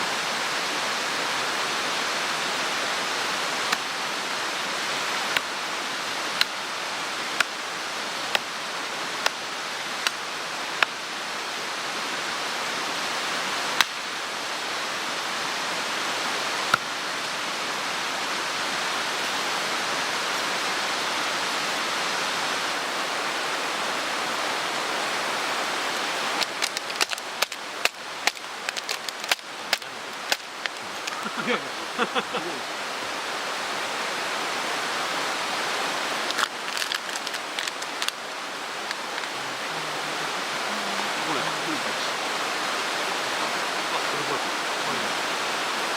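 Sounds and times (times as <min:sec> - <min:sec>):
mountain stream rushing: 0:00.0 - 0:45.9.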